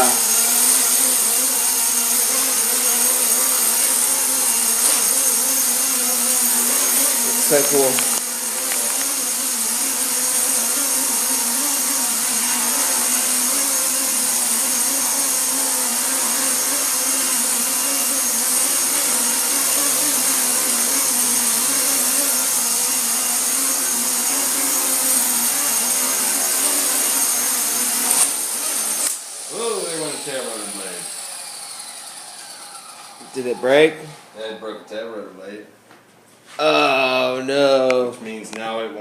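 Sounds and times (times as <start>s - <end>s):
remote-control helicopter whine: 0.0s - 34.4s.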